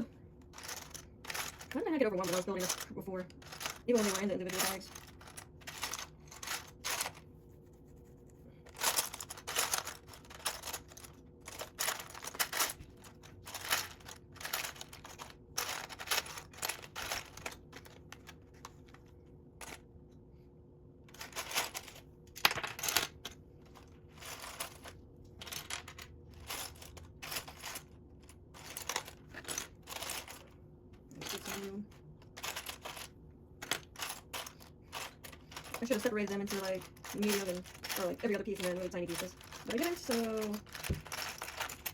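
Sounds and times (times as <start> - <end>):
plastic pieces clattering: 0.0 - 7.2, 8.7 - 19.8, 21.1 - 41.9.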